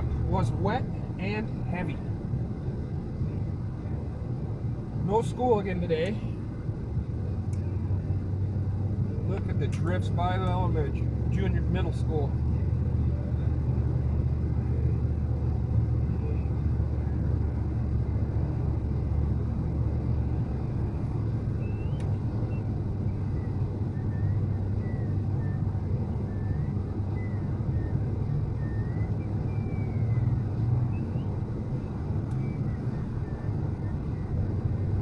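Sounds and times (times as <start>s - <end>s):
vehicle engine and tyres rumbling: 0.0s - 35.0s.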